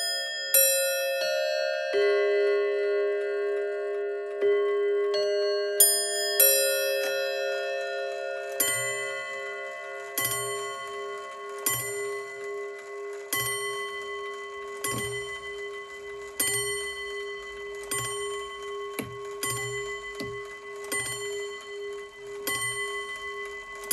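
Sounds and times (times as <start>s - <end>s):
mantel clock striking bells: 0.0s - 23.9s.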